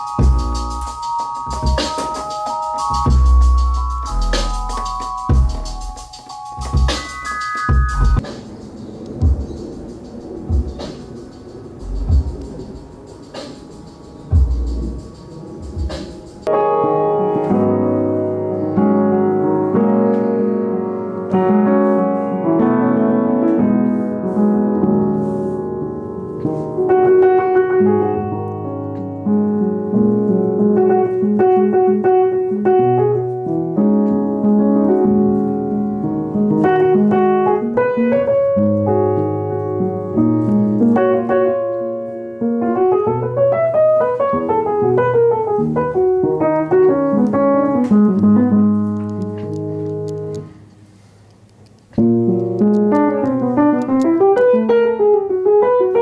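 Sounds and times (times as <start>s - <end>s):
piano chords and runs: 0.0s - 50.7s, 51.9s - 56.0s.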